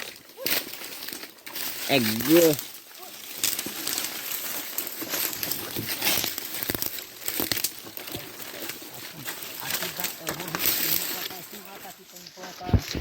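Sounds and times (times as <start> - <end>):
dry leaves rustling and crackling: 0.0 - 13.0
twigs snapping: 0.0 - 13.0.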